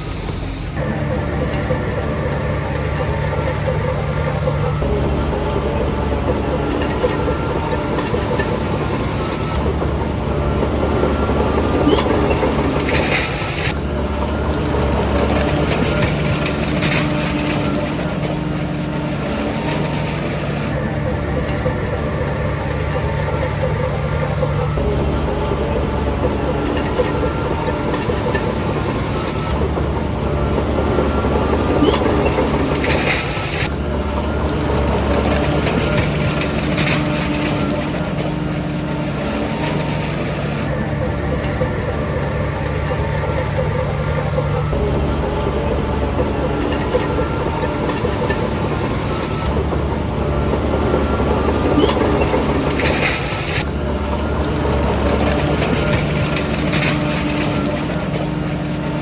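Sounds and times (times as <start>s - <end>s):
bulldozer diesel engine running: 0.0s - 59.0s
steel tracks clattering: 0.0s - 59.0s.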